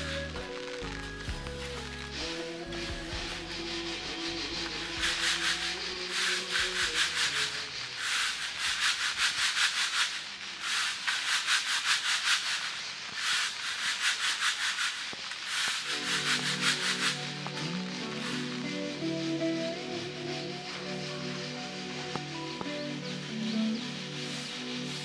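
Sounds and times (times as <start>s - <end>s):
mesh sieve rasping: 0.0s - 25.0s.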